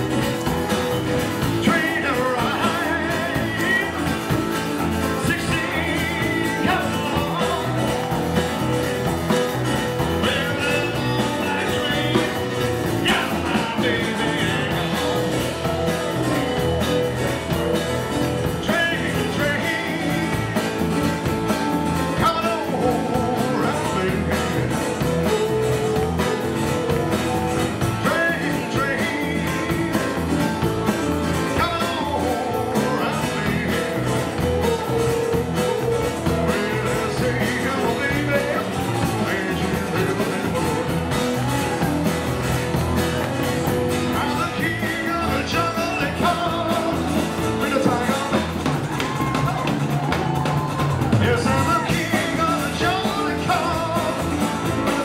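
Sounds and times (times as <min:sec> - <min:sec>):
acoustic guitars: 0:00.0 - 0:55.0
drums: 0:00.0 - 0:55.0
man singing lead: 0:00.0 - 0:55.0.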